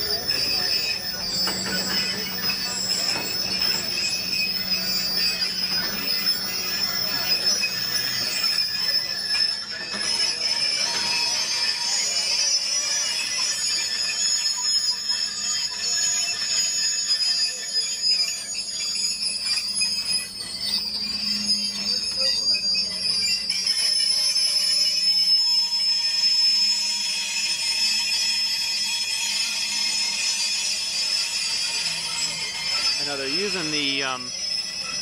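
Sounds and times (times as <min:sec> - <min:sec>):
train wheels squealing: 0:00.0 - 0:35.0.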